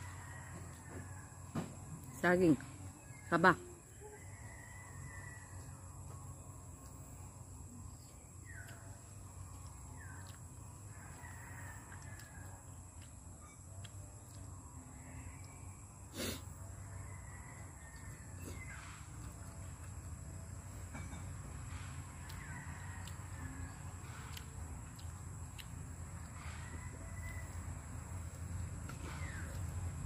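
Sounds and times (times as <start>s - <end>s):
low background hum: 0.0s - 30.0s.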